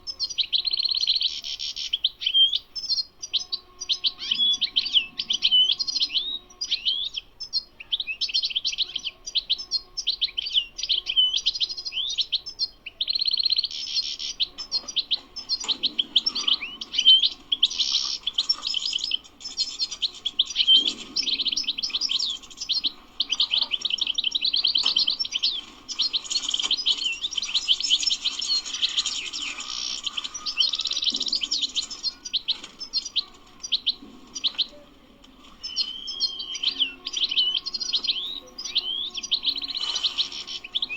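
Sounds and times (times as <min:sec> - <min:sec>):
goldfinch singing: 0:00.1 - 0:40.9.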